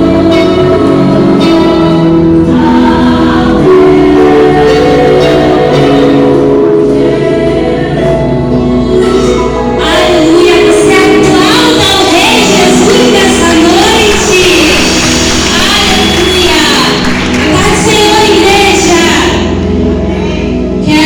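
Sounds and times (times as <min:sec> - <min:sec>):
group singing gospel song: 0:00.0 - 0:19.0
instrumental backing: 0:00.0 - 0:21.0.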